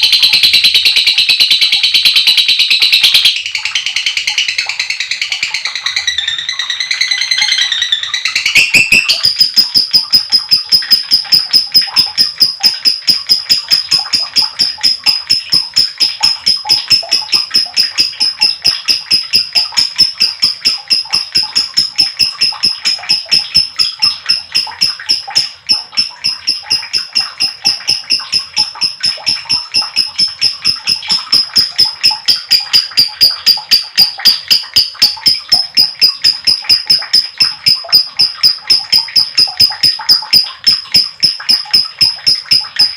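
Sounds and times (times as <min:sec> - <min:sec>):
lovebird shrill chirping trill: 0:00.0 - 0:42.9.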